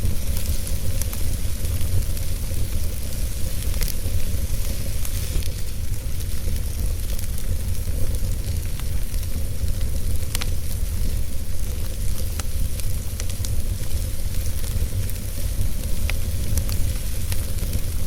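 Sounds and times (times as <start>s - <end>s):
fire burning in fireplace: 0.0s - 18.0s.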